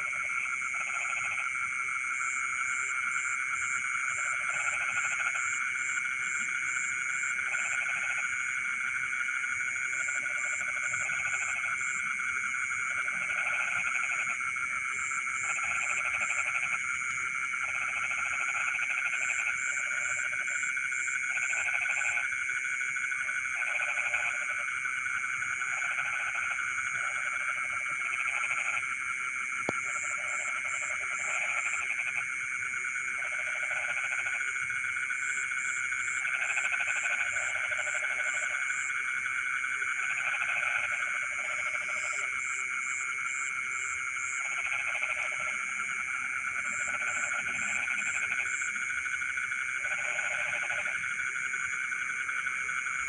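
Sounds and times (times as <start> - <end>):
frogs ringing chorus: 0.0 - 53.0.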